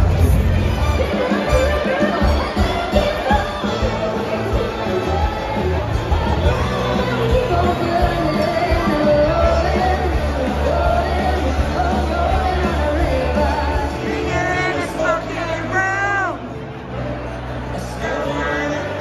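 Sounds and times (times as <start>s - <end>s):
crowd singing along: 0.0s - 19.0s
live band music with heavy bass: 0.0s - 19.0s.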